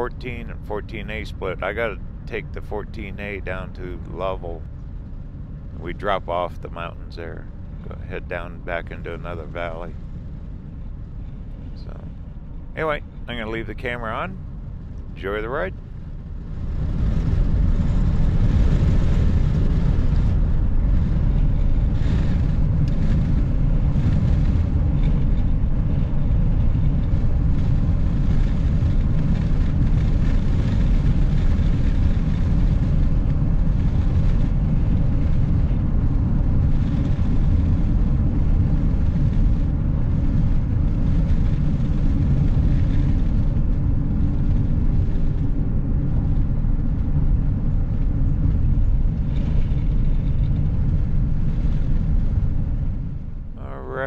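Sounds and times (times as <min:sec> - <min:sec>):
vehicle road and engine rumble: 0:00.0 - 0:54.0.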